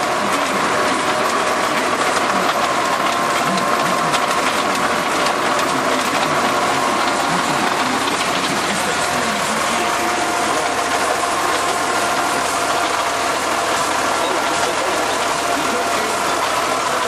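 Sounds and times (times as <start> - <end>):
fast mechanical rattle: 0.0 - 17.0
tractor engine running: 0.0 - 17.0.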